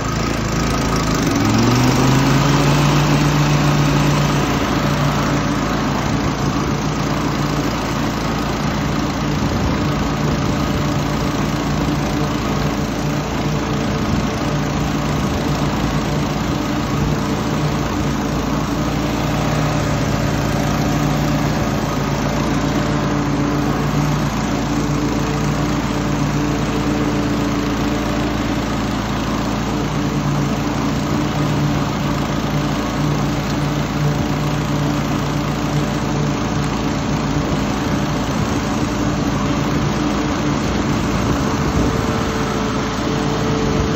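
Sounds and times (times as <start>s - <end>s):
lawn mower engine running: 0.0s - 43.9s.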